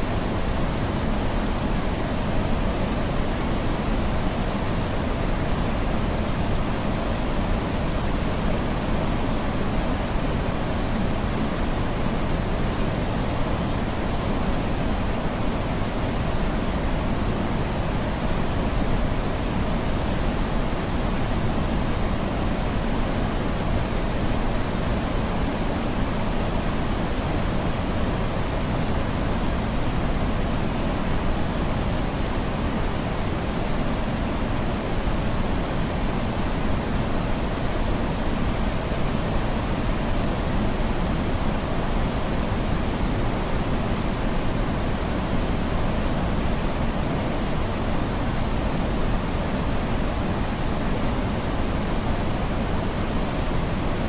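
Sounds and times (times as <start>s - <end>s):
steady pink noise: 0.0s - 54.0s.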